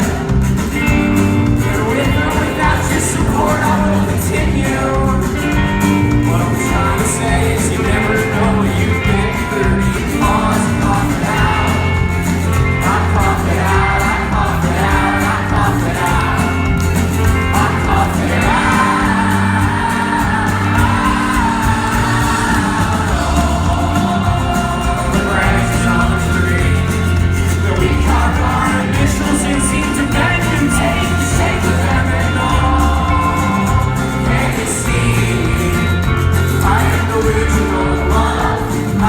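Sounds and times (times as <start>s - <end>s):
lead vocal singing: 0.0s - 39.0s
live rock band playing: 0.0s - 39.0s.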